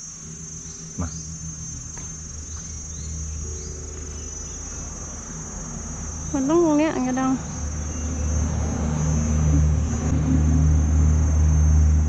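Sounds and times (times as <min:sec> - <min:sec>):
gong humming deep tone: 0:00.0 - 0:12.0
high insect drone: 0:00.0 - 0:12.0.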